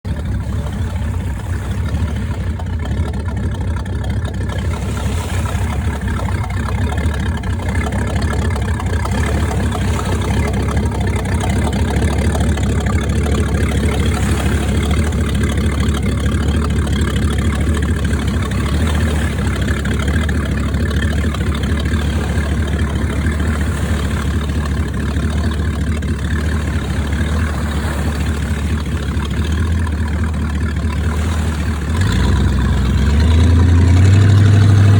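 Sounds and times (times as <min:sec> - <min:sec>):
motorboat engine humming: 0:00.0 - 0:34.9.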